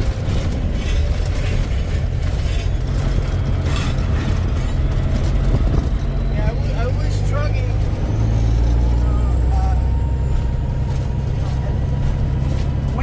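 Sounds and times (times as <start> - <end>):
cab rattles and clatters: 0.0 - 8.3, 9.9 - 13.0
diesel engine running: 0.0 - 13.0.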